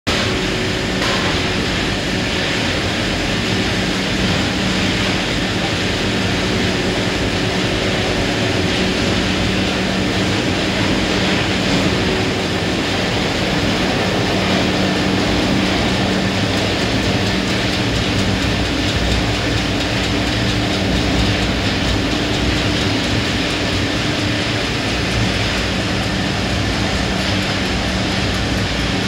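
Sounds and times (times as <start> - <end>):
loud machine humming: 0.1 - 29.0.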